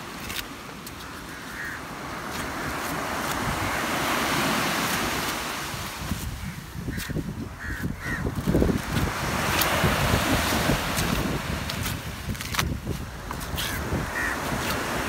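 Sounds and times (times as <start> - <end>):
ocean surf washing on beach: 0.0 - 15.0
wind: 0.0 - 15.0.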